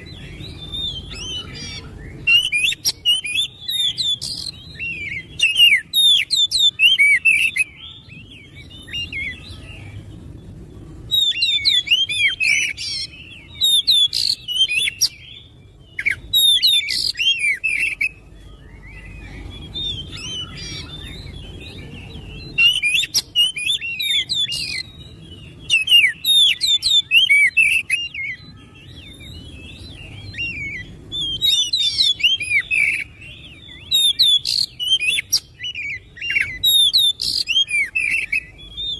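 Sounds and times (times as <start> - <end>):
bird singing gliding notes: 0.0 - 38.9.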